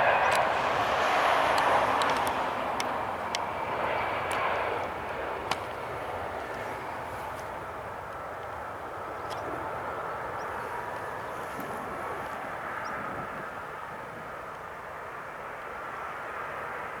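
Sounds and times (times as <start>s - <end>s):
distant jet engines: 0.0s - 17.0s.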